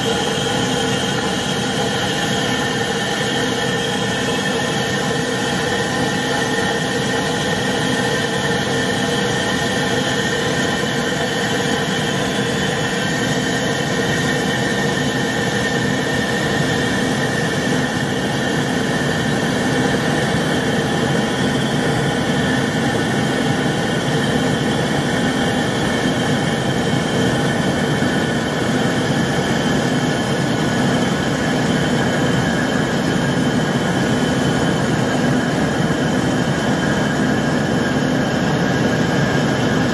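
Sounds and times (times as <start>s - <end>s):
jet engine hum and whines: 0.0s - 39.9s.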